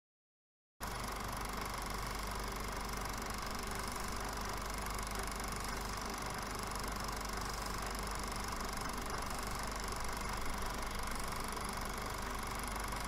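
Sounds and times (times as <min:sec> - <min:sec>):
mechanical drone with hum: 0:00.8 - 0:13.0.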